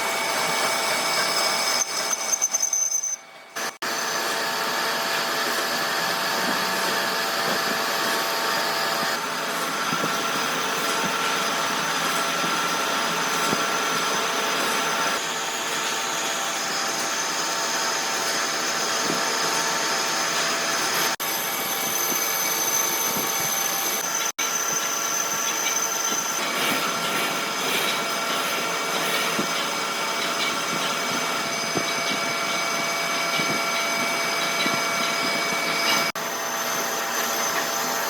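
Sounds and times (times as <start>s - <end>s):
high whining tones: 0.0s - 38.0s
machinery running: 0.0s - 38.0s.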